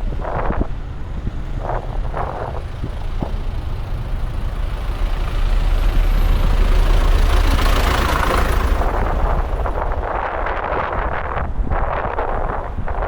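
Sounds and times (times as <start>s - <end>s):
road traffic engines: 0.0s - 13.0s
wind rumble on microphone: 0.0s - 13.0s.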